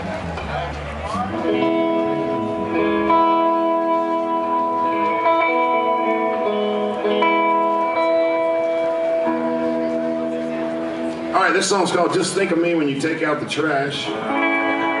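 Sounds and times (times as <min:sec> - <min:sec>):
guitar playing chords: 0:00.0 - 0:15.0.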